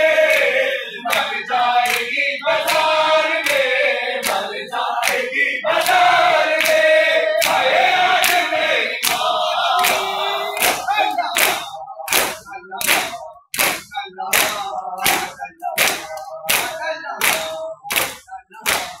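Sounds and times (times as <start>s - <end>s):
chanted lament voices: 0.0s - 19.0s
palms slapping chests in unison: 0.2s - 19.0s.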